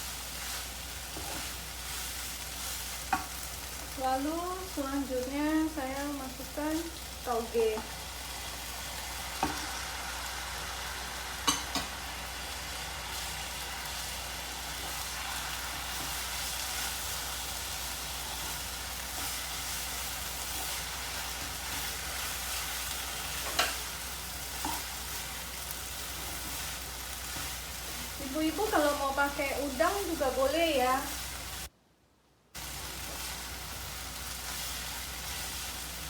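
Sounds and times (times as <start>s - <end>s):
noodles sizzling in a pan: 0.0s - 31.7s, 32.6s - 36.0s.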